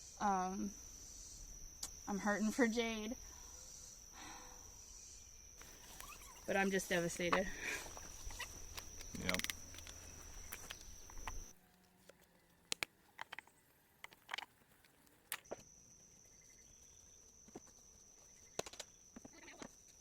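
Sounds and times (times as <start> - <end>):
high-pitched insect chorus: 0.0 - 11.6, 15.3 - 20.0.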